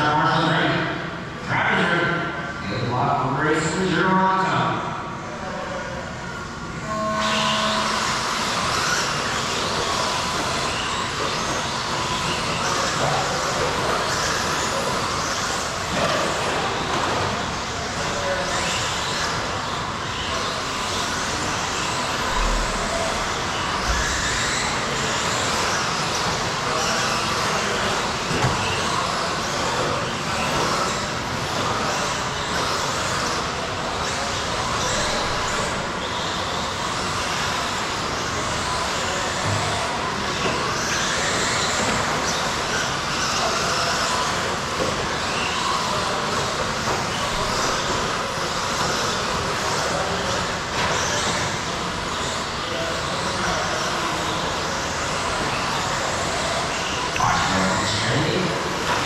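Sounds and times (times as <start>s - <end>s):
rc trucks racing: 5.2s - 59.0s.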